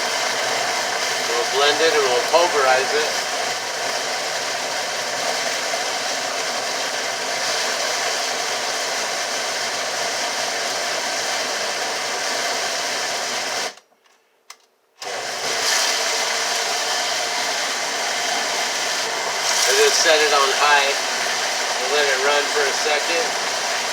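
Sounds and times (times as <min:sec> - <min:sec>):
blender chopping food scraps: 0:00.0 - 0:13.8, 0:15.0 - 0:23.9.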